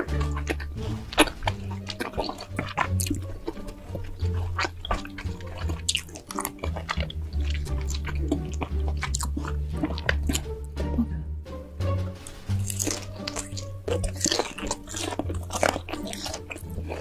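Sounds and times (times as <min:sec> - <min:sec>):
close chewing with wet mouth clicks: 0:00.0 - 0:10.6, 0:12.6 - 0:17.0
background music with bass line: 0:00.0 - 0:17.0.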